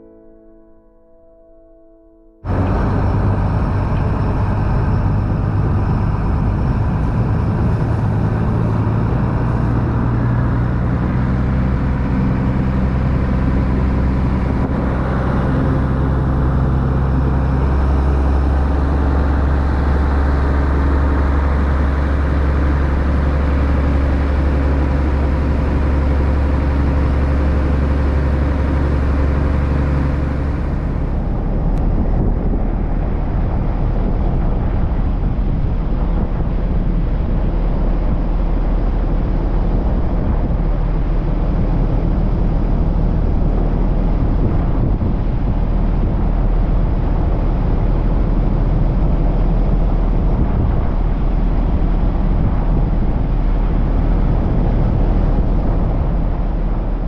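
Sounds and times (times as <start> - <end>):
boat engine running: 2.4 - 57.0.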